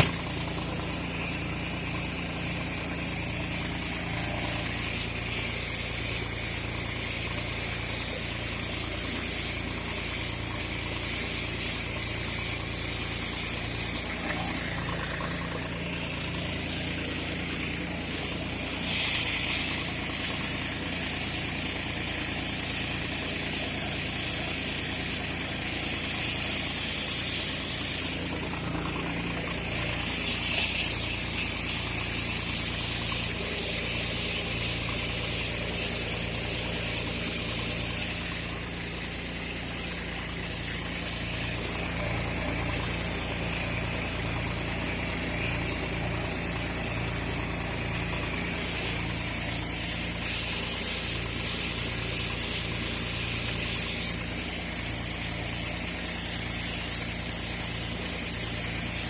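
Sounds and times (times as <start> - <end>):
sprayer hiss: 0.0 - 59.0
tractor engine running: 0.0 - 59.0.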